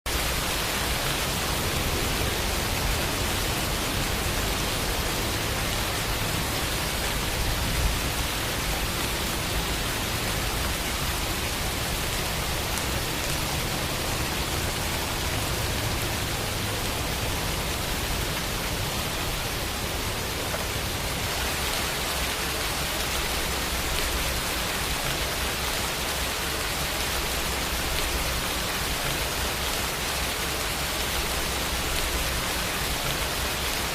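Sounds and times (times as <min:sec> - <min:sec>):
steady rain: 0:00.1 - 0:33.9.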